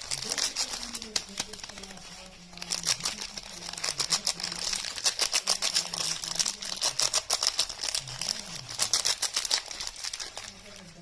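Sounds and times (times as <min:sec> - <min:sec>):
wrapping crinkling: 0:00.0 - 0:11.0.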